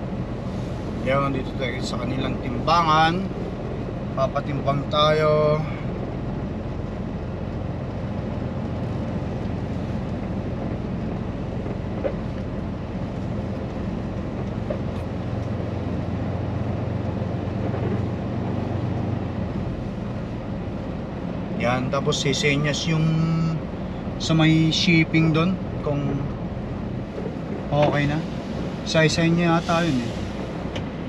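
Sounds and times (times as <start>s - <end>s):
truck diesel engine droning: 0.0s - 31.0s.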